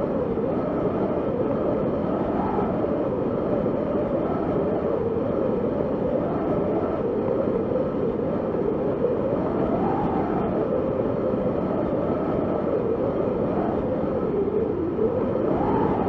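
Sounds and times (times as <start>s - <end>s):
wind blowing with hollow howl: 0.0s - 16.0s.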